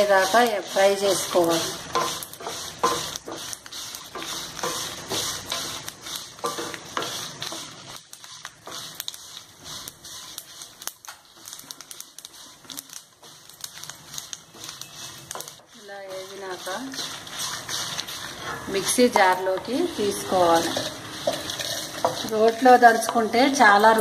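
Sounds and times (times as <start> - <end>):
spices sizzling in oil: 0.0 - 24.0
wooden spatula scraping a pan: 0.0 - 24.0.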